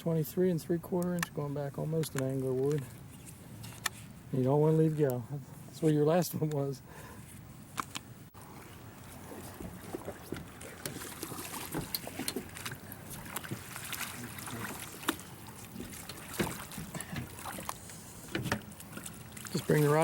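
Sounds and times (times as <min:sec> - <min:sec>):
water around boat: 0:00.0 - 0:20.0.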